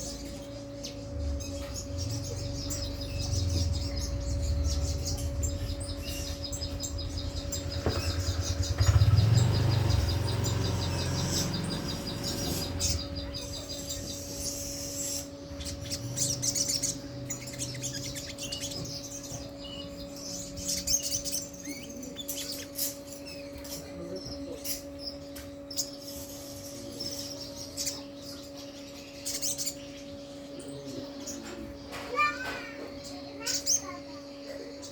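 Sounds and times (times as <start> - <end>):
bird trilling and chirping: 0.0 - 34.9
steady low hum: 0.0 - 34.9.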